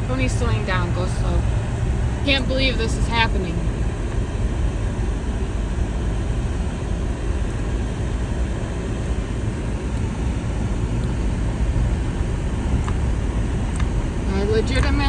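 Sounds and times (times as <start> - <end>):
truck engine and tyres rumble: 0.0 - 15.0.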